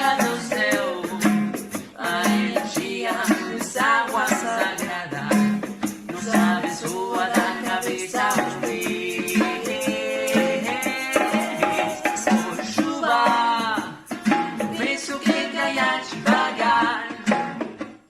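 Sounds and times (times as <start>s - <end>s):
person singing: 0.0s - 17.3s
rattle-like hand percussion: 0.0s - 18.0s.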